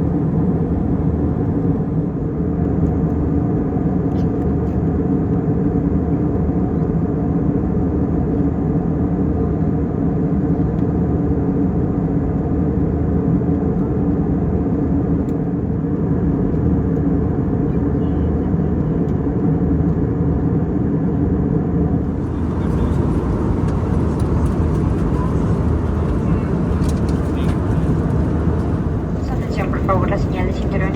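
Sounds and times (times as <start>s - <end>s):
airplane cabin engine rush: 0.0s - 30.9s.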